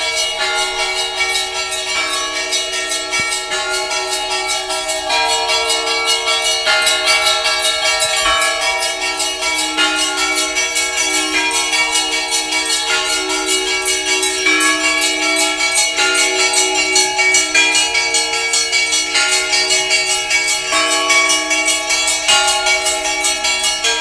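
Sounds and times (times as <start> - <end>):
deep bells ringing: 0.0 - 24.0
small bells pealing: 0.0 - 24.0.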